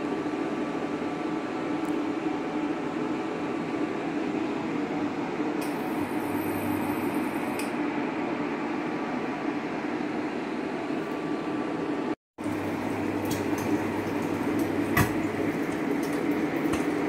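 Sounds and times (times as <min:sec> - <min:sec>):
fan whirring hum: 0:00.0 - 0:17.0.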